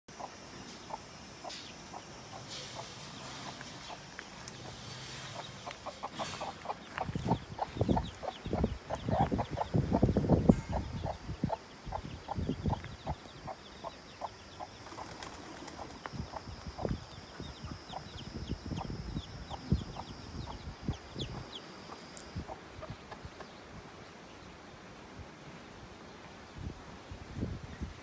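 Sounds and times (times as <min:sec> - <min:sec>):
hen clucking softly: 0:00.1 - 0:15.1, 0:15.8 - 0:23.5
chicks cheeping faintly: 0:00.1 - 0:25.2.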